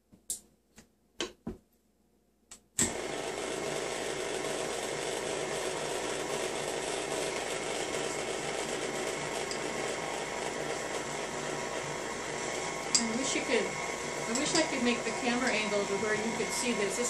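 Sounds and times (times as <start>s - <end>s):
stand mixer motor running: 2.8s - 17.0s.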